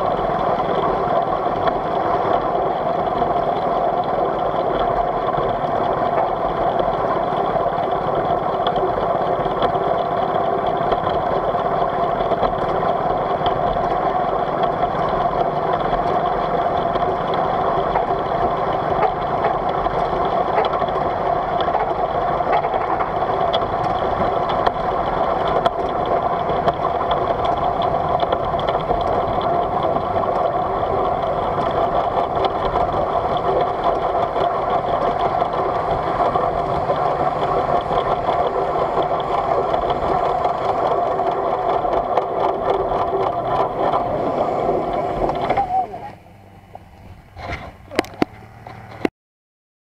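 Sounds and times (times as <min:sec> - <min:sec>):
miniature steam locomotive running: 0:00.0 - 0:49.1.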